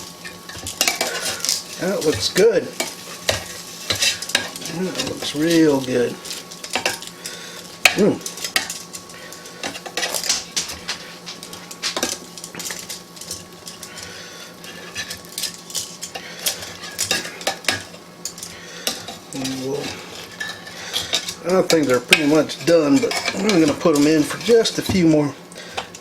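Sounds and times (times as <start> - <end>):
metal utensil scraping basket: 0.3 - 25.8.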